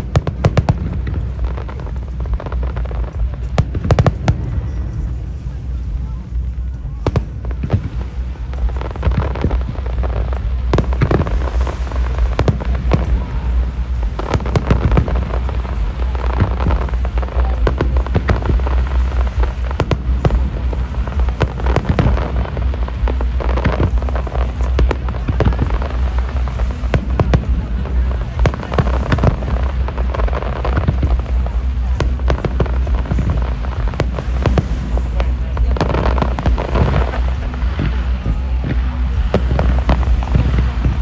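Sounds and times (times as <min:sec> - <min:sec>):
fireworks cracks and bangs: 0:00.0 - 0:41.0
low rumble: 0:00.0 - 0:41.0.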